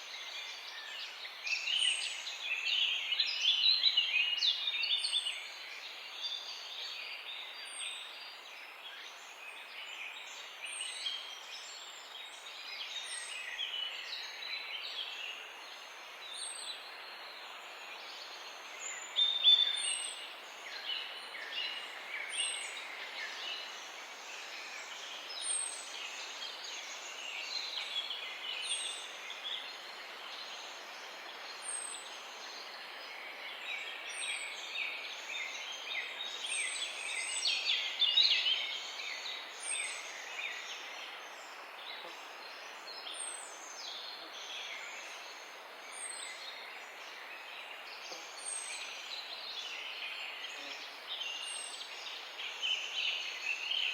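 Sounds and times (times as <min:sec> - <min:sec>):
background hiss: 0:00.0 - 0:53.9.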